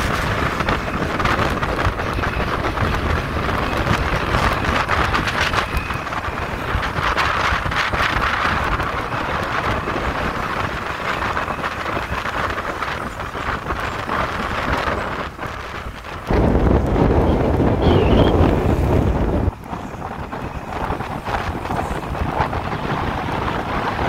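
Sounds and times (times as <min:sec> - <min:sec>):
motorcycle engine and road rumble: 0:00.0 - 0:24.0
wind rushing over microphone: 0:00.0 - 0:24.0.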